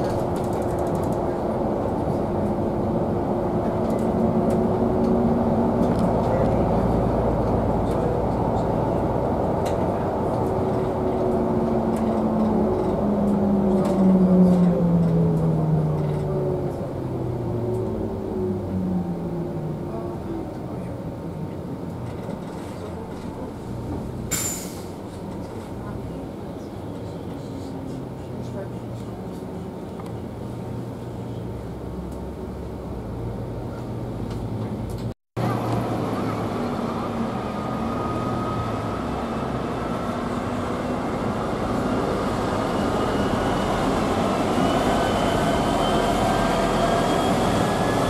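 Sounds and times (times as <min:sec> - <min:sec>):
vehicle rumble: 0:00.0 - 0:48.0.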